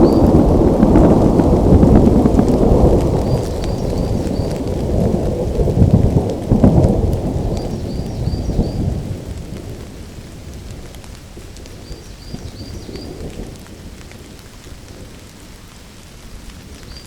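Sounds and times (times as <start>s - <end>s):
rolling thunder: 0.0s - 15.3s
steady rain: 0.0s - 17.0s.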